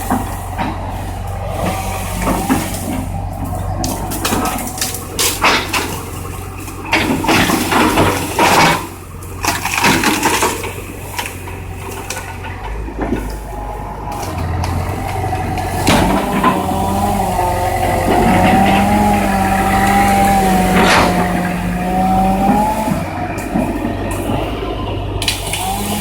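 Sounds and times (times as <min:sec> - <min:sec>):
debris crunching and crashing: 0:00.0 - 0:26.0
excavator engine running: 0:00.0 - 0:26.0
timber cracking: 0:00.0 - 0:26.0.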